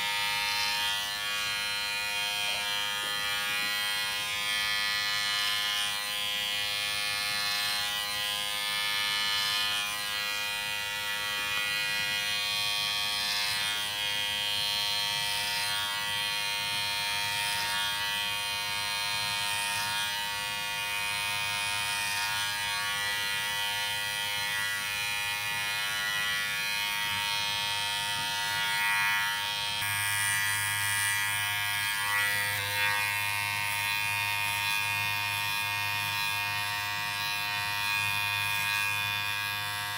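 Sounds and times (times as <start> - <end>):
electric hair clippers running: 0.0 - 39.9.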